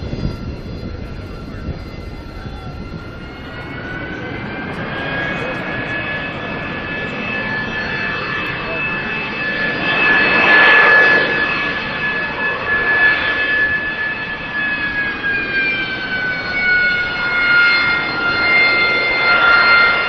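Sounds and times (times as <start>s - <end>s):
jet engine roaring and whining: 0.0s - 20.0s.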